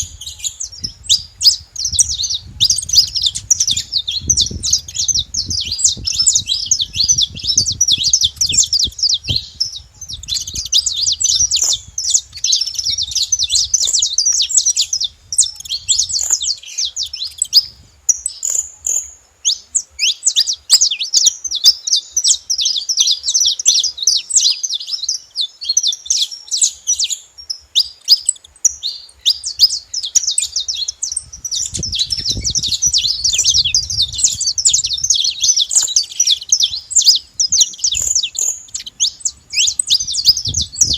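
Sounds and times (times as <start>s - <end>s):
finches chirping and singing: 0.0s - 40.9s.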